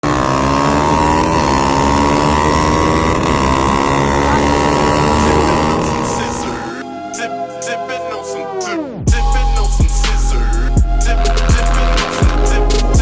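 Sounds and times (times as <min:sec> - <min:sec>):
motorcycle engine accelerating: 0:00.0 - 0:06.9, 0:09.1 - 0:13.0.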